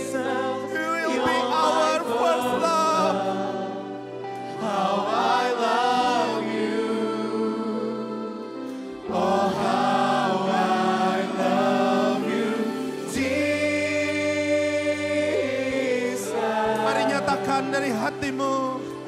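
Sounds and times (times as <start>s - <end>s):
vocal group singing in harmony: 0.0s - 19.0s.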